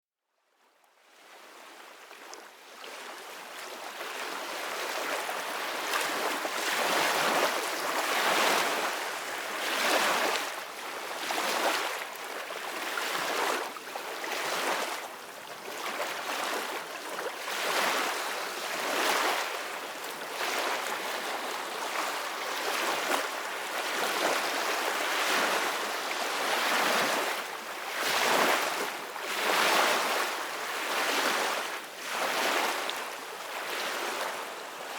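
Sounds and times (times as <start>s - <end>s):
sea waves splashing: 4.2s - 15.1s, 15.7s - 32.9s.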